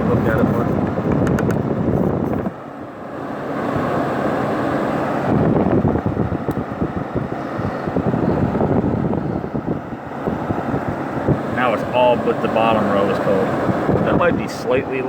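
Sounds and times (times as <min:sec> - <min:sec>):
wind buffeting microphone: 0:00.0 - 0:02.7, 0:03.3 - 0:15.0
air conditioner fan blowing: 0:00.0 - 0:15.0.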